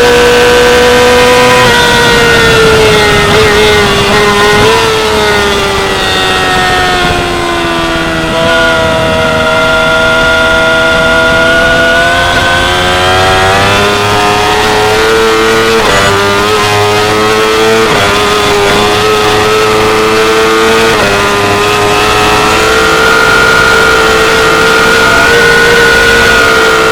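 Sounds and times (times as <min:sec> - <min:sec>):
motorcycle engine revving high: 0:00.0 - 0:26.9.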